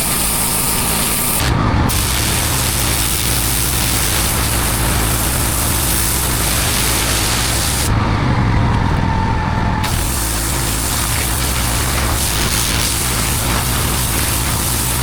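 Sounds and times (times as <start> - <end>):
pressure washer water jet hissing: 0.0 - 8.0, 9.8 - 15.0
low machine hum: 0.0 - 15.0.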